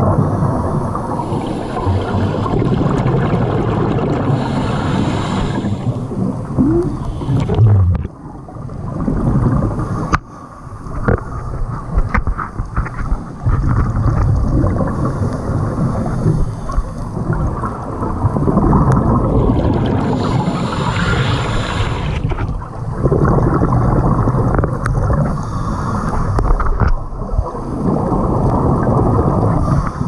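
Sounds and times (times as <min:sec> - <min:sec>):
muffled underwater rumble: 0:00.0 - 0:30.0.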